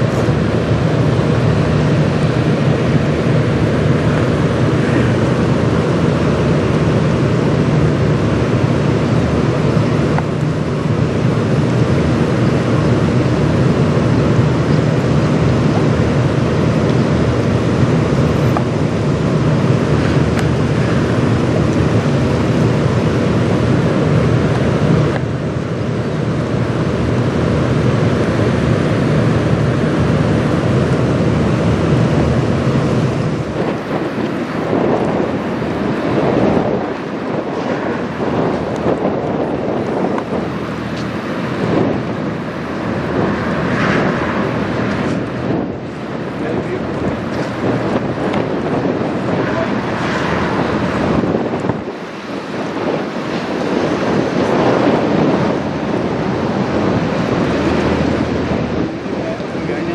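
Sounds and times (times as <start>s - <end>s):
ship engines droning: 0.0s - 59.9s
wind noise on microphone: 0.0s - 59.9s.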